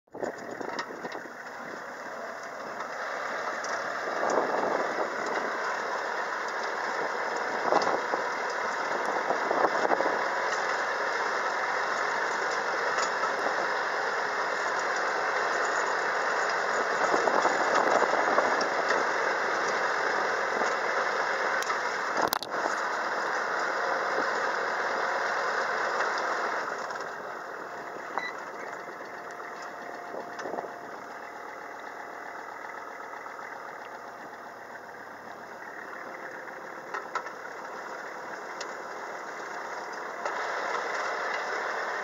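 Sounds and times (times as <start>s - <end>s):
tractor tiller churning soil: 0.1s - 42.0s.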